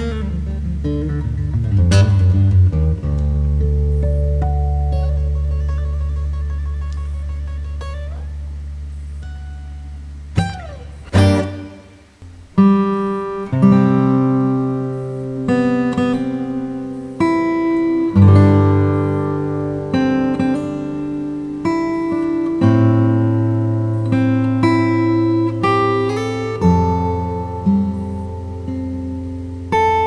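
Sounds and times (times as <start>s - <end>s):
guitar notes and chords: 0.0s - 30.0s.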